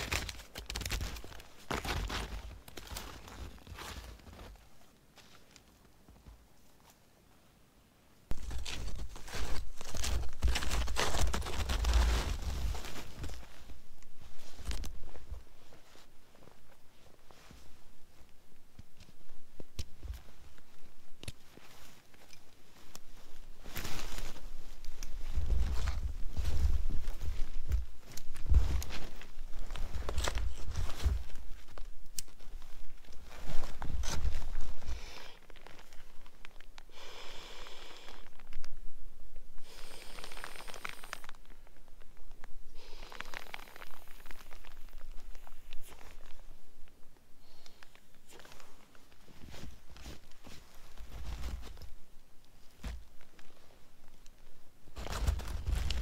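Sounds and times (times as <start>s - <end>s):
small snaps and crunches: 0.0s - 7.0s, 8.3s - 15.4s, 18.8s - 36.9s, 38.1s - 38.8s, 39.7s - 56.0s
branches and clothing rustling: 0.0s - 7.6s, 8.2s - 56.0s.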